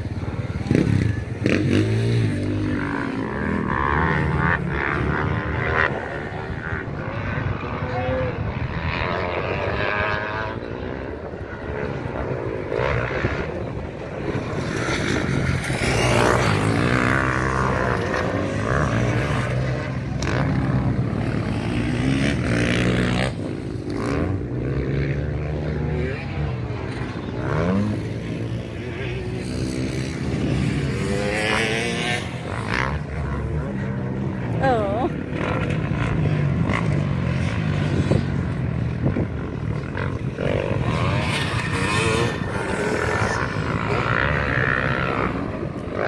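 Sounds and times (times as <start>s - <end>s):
low engine drone: 0.0s - 46.0s
motorbike engines revving: 0.0s - 46.0s.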